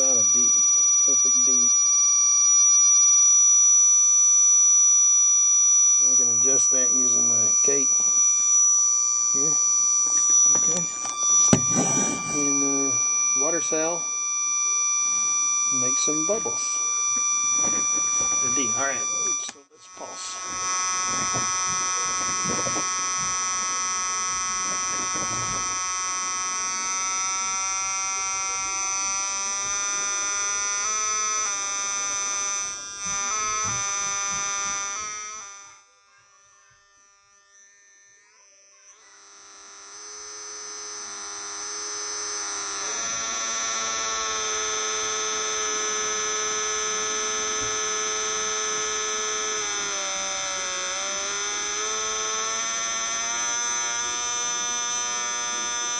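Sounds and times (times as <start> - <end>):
electrical coil whine: 0.0 - 55.9.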